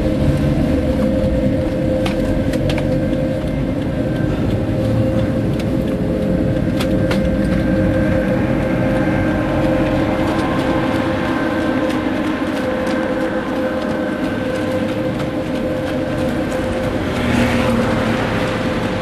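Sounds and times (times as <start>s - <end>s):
constant hum: 0.0s - 19.0s
road and tyre noise: 0.0s - 19.0s.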